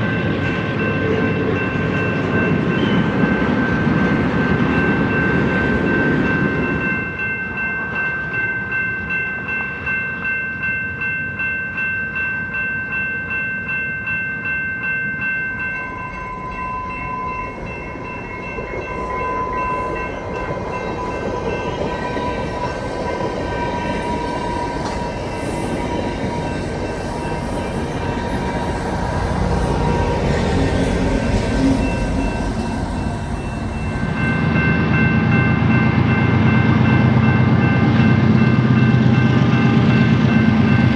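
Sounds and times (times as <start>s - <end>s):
freight train rumbling: 0.0s - 10.3s, 15.0s - 40.9s
pulsing bell-like tone: 0.0s - 40.9s
steady ringing tone: 4.8s - 40.9s.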